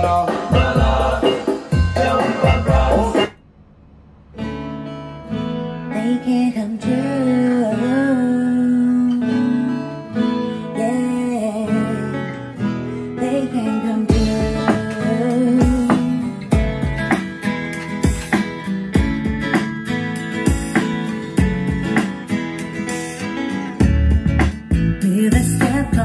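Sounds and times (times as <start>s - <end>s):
song with guitar and singing: 0.0s - 3.4s, 5.2s - 26.0s.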